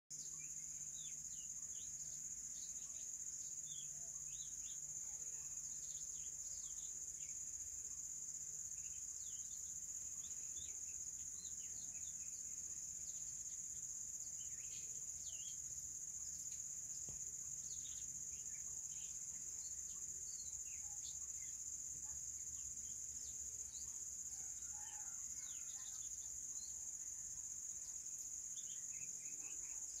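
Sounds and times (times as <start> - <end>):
small birds chirping: 0.1 - 30.0
insects droning: 0.2 - 30.0.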